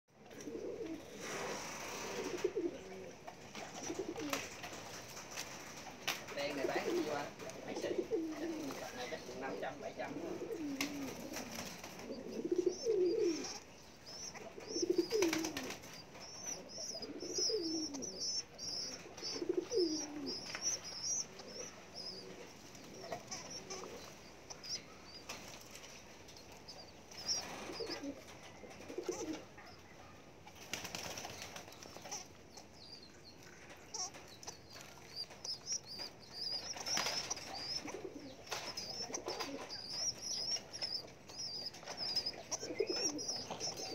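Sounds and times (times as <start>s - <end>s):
low bending pigeon calls: 0.2s - 43.9s
wings fluttering: 0.3s - 43.9s
pigeon squabs squeaking: 3.5s - 43.9s.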